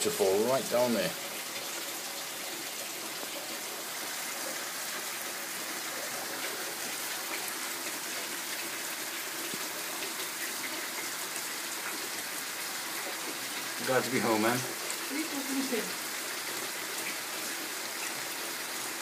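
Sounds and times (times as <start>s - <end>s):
rain falling: 0.0s - 19.0s
water splashing in a cascade: 0.0s - 19.0s.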